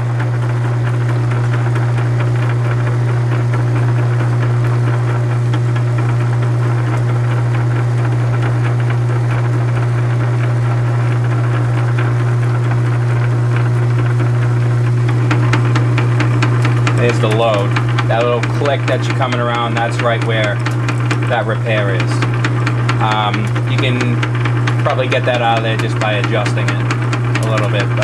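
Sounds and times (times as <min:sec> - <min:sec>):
lathe gear-train drone: 0:00.0 - 0:28.0.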